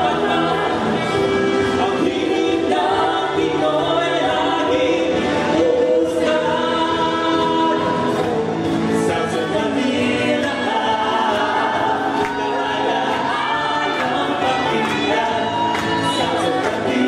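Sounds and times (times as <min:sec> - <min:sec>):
vocal group singing in harmony: 0:00.0 - 0:17.0.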